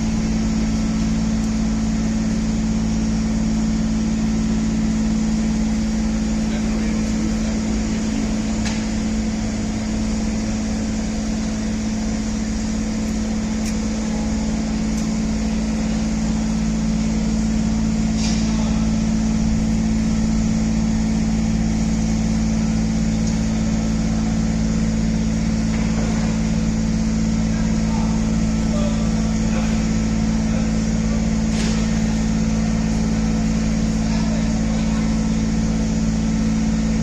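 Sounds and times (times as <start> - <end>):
electric hoist humming: 0.0 - 37.0.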